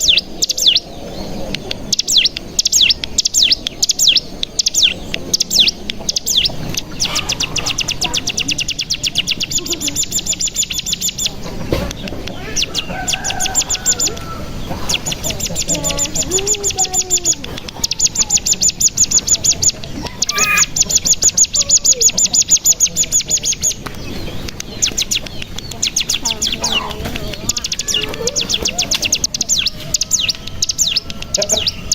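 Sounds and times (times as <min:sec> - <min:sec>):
bird singing fast high trills: 0:00.0 - 0:11.4, 0:12.4 - 0:31.9.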